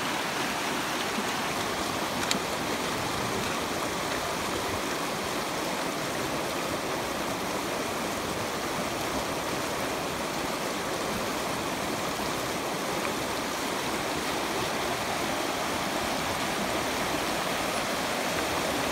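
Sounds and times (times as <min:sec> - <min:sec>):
river rushing over stones: 0:00.0 - 0:18.9.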